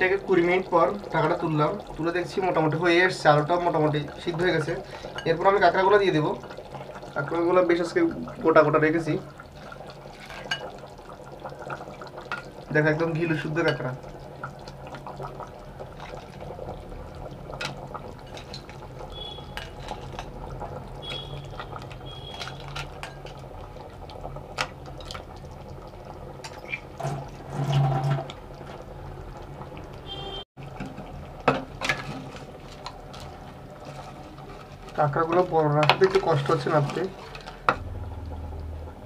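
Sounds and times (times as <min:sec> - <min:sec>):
gravy sloshing: 0:00.0 - 0:39.0.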